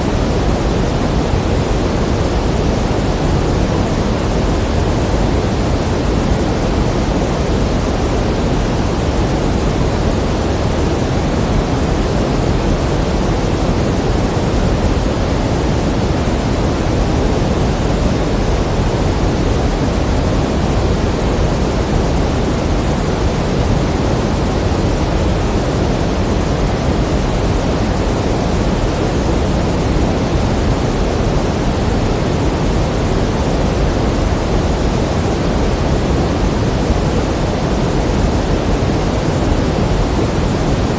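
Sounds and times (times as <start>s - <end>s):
pink noise: 0.0s - 40.9s.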